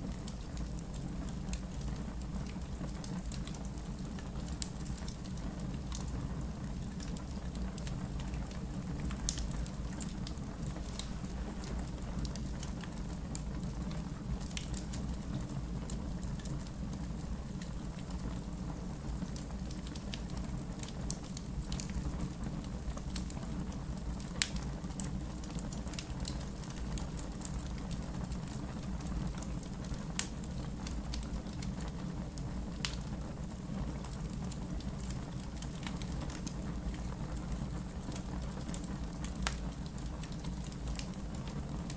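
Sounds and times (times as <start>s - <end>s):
fire rumbling: 0.0s - 41.9s
wood crackling and popping: 0.0s - 41.9s.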